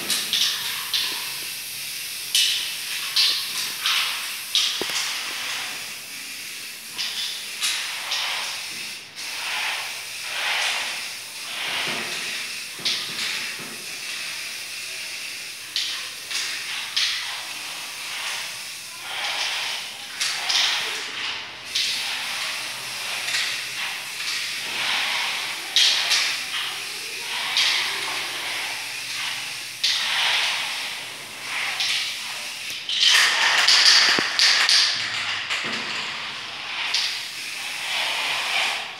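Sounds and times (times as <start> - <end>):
spray paint can hissing: 0.0 - 38.9.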